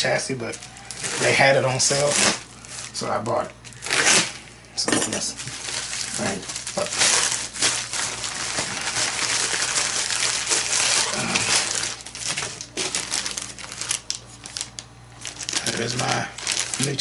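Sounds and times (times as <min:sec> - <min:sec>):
rustling handling noise: 0:00.4 - 0:17.0.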